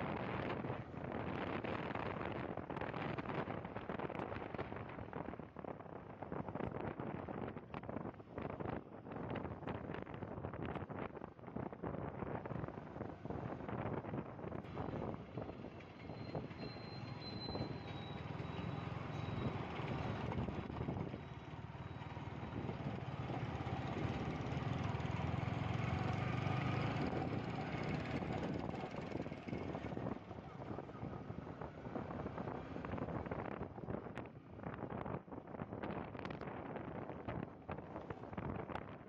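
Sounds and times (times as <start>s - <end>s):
wind and road noise: 0.0s - 39.0s.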